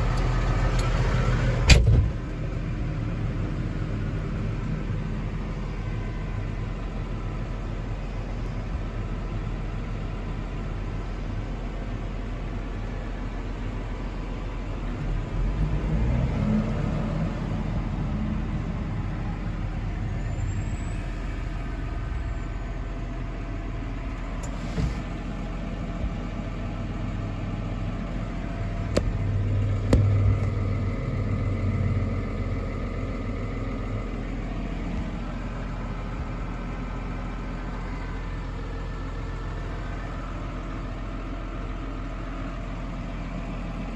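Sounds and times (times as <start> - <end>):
tractor engine idling: 0.0 - 15.9, 16.7 - 43.9.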